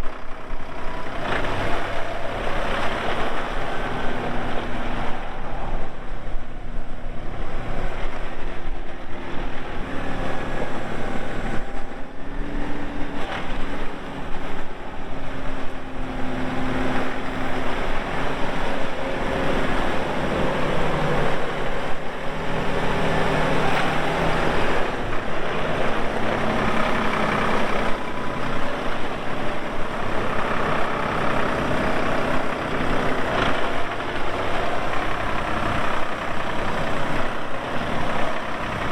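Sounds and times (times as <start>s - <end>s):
tractor diesel engine revving: 0.0s - 38.9s.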